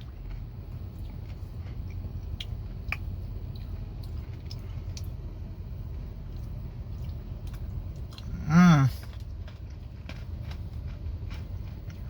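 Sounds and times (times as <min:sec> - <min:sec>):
low rumble: 0:00.0 - 0:12.0
soft chewing: 0:00.0 - 0:12.0.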